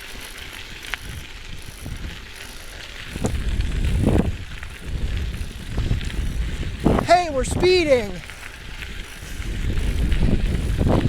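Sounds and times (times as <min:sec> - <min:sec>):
bicycle tyre and wind rumble: 0:00.0 - 0:11.0.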